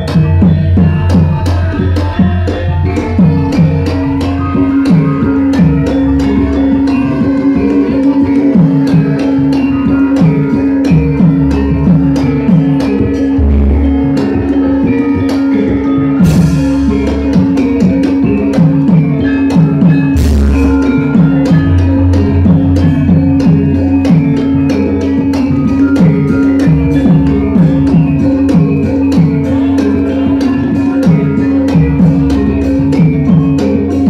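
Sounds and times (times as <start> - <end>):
hand drum strokes: 0.0 - 34.0
metallophones and gongs ringing: 0.0 - 34.0.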